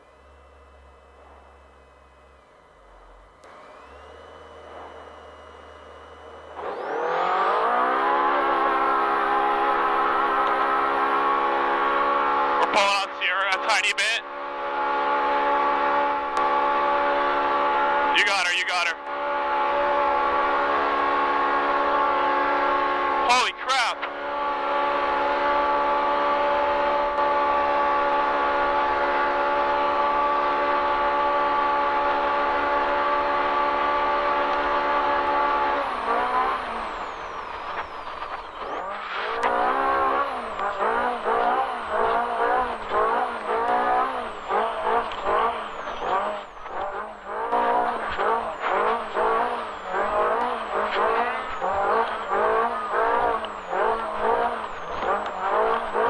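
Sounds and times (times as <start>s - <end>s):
engine revving at high pitch: 0.0s - 56.0s.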